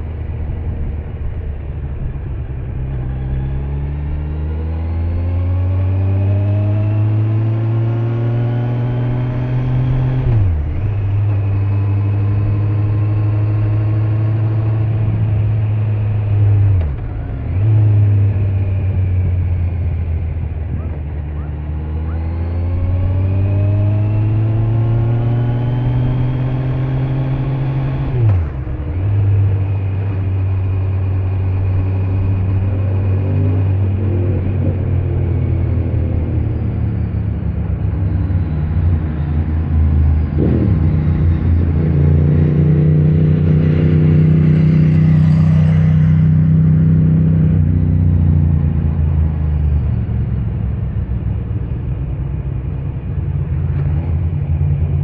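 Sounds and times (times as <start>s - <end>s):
motorcycle engine running: 9.1s - 55.0s.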